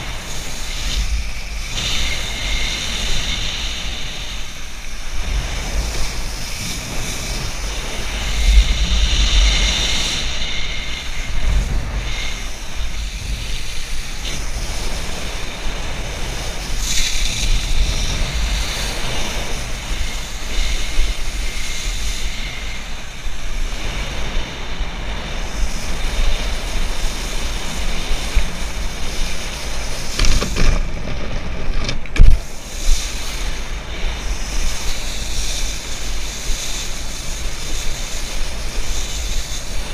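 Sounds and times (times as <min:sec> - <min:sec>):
water spray hissing: 0:00.0 - 0:30.6, 0:32.3 - 0:39.9
wind buffeting microphone: 0:00.0 - 0:39.9.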